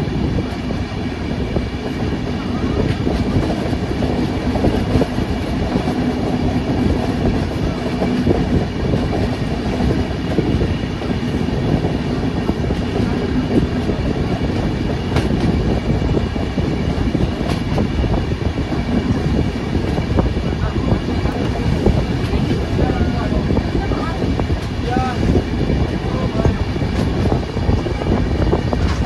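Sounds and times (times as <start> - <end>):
train wheels rumbling on rails: 0.0 - 29.0
train wheel clacks: 0.4 - 29.0.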